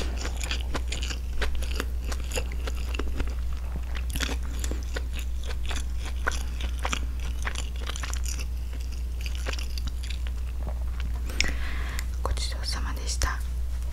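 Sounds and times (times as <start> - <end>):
chewing with mouth clicks: 0.0 - 12.2.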